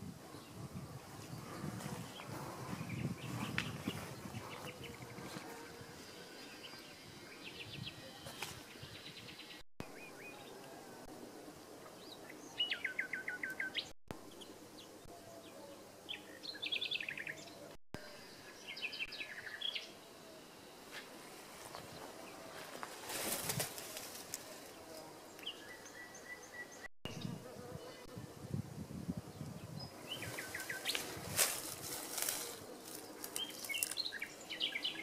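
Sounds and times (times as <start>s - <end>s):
faint background noise: 0.0s - 35.0s
songbirds chirping: 0.0s - 35.0s.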